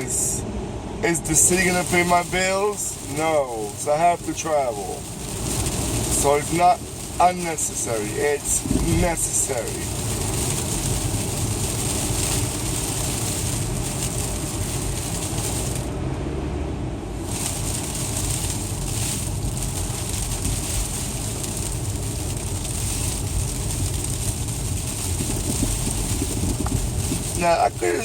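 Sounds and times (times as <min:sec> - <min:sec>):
engine and tyres rumbling: 0:00.0 - 0:28.0
road hiss: 0:00.0 - 0:28.0.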